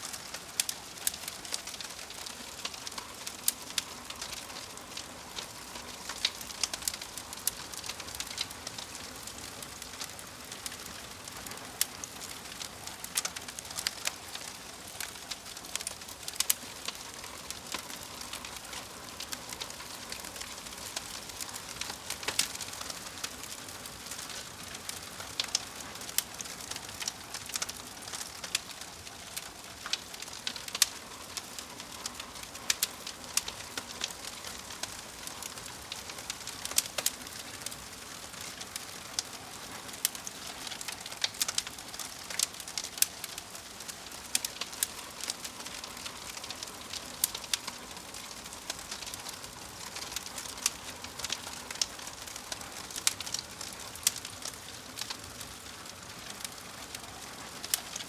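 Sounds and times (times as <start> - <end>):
fire crackling and popping: 0.0 - 58.0
soft hiss of fire: 0.0 - 58.0.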